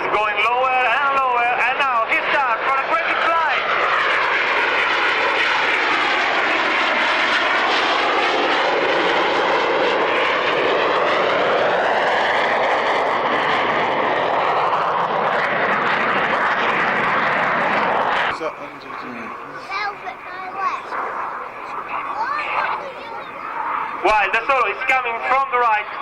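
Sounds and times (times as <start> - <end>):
jet flying past: 0.0 - 26.0
jet whine shifting pitch: 0.0 - 26.0.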